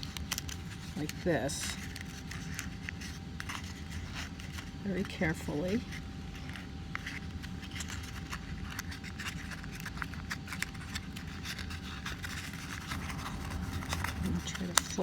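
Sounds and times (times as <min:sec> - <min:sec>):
paper rustling and crackling: 0:00.0 - 0:15.0.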